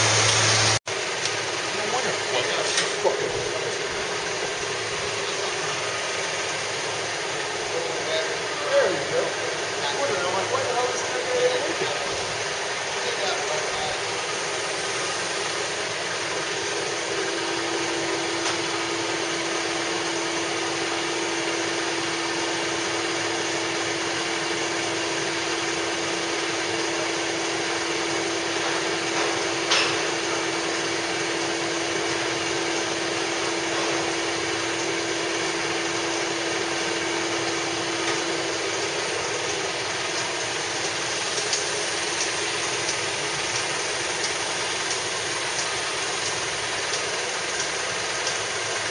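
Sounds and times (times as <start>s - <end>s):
heavy machinery running: 0.0s - 48.9s.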